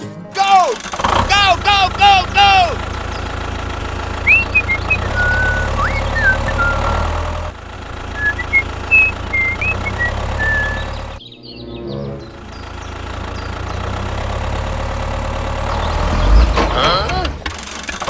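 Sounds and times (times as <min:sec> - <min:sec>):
short chirping calls: 0:00.5 - 0:07.5, 0:08.1 - 0:16.4
low motor hum: 0:00.8 - 0:11.2, 0:11.9 - 0:18.0.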